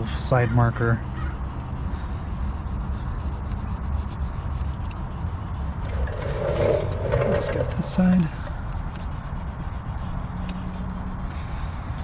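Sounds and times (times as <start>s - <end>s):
sandpaper rubbing on plastic: 0.0s - 12.0s.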